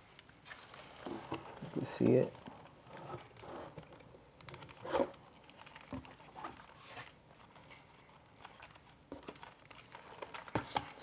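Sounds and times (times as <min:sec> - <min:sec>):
plastic parts knocking and rustling: 0:01.0 - 0:11.0.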